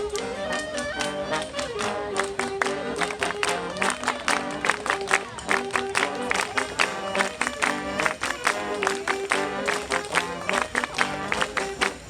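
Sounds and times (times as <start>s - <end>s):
marching band playing: 0.0s - 12.0s.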